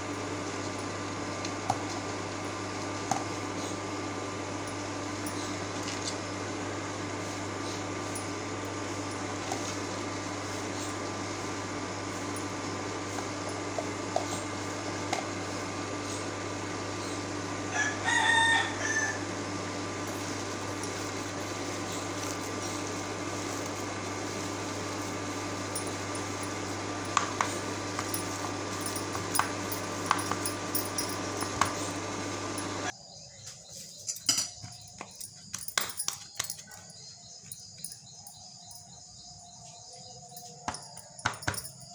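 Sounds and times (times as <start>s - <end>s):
steady electrical hum: 0.0s - 41.9s.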